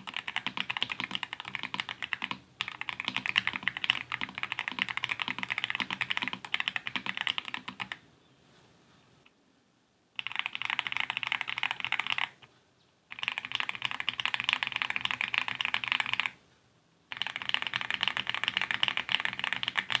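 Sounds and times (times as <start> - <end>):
fast typing on mechanical keyboard: 0.0 - 8.0, 10.2 - 12.4, 13.1 - 16.4, 17.1 - 20.0.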